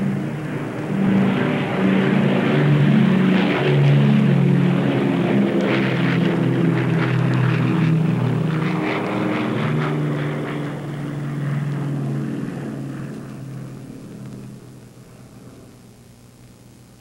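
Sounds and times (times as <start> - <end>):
low engine drone with hiss: 0.0 - 17.0.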